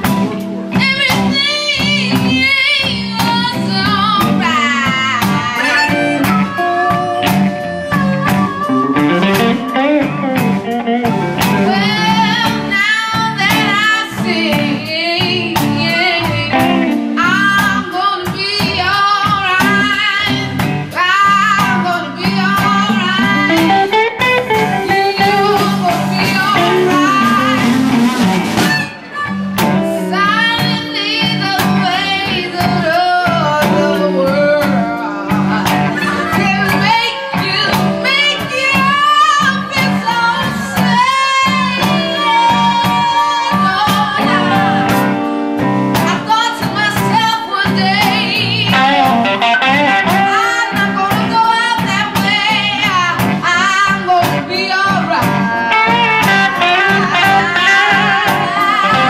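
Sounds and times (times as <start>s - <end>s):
person singing: 0.0s - 45.3s, 45.9s - 59.0s
drum kit beat: 0.0s - 59.0s
guitars: 0.0s - 59.0s.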